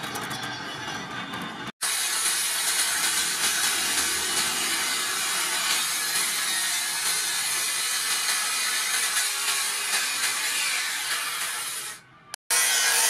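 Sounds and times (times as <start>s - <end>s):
circular saw cutting wood: 1.8s - 13.0s.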